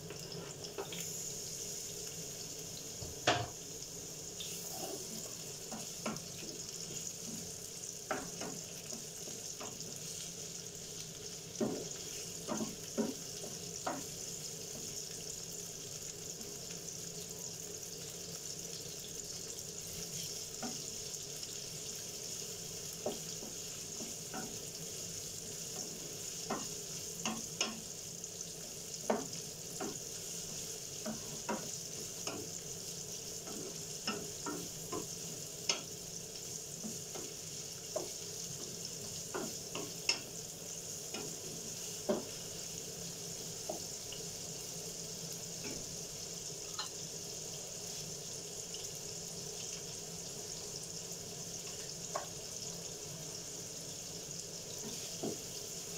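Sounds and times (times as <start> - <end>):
onions sizzling in a frying pan: 0.0 - 55.9.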